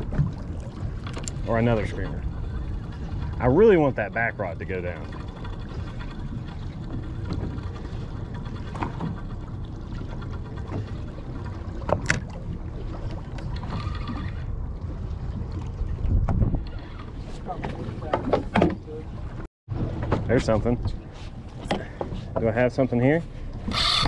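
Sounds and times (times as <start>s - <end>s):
wind buffeting microphone: 0.0s - 22.8s
water against boat hull: 0.0s - 24.0s.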